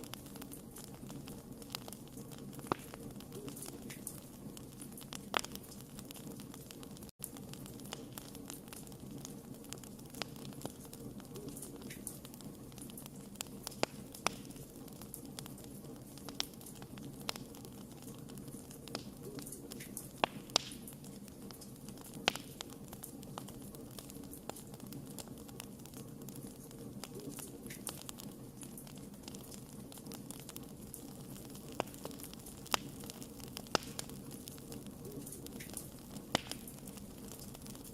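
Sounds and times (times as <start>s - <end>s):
campfire crackling: 0.0s - 37.9s.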